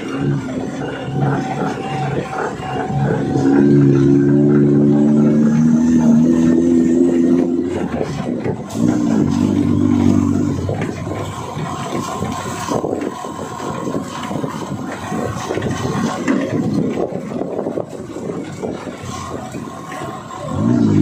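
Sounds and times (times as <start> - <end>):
off-road vehicle engine running: 0.0 - 21.0
scraping noise: 0.0 - 21.0.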